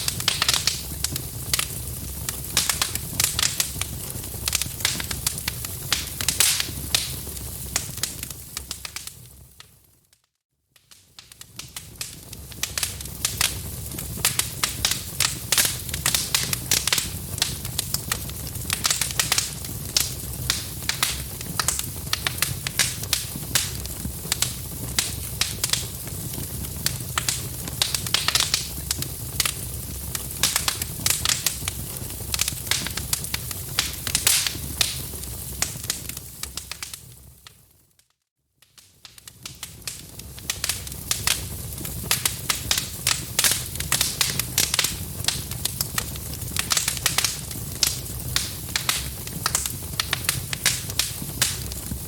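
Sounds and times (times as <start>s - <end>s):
wood fire crackling and popping: 0.0s - 10.0s, 10.8s - 52.0s.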